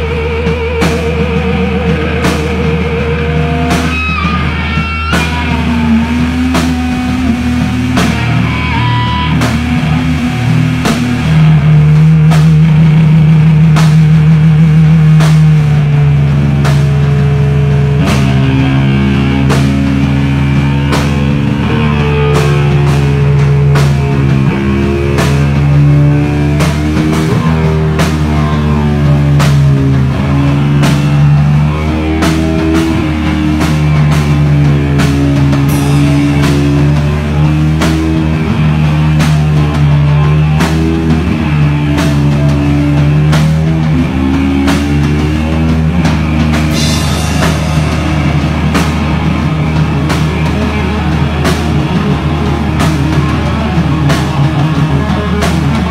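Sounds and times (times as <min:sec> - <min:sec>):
distorted electric guitar: 0:00.0 - 0:55.9
drum kit and cymbals: 0:00.0 - 0:55.9.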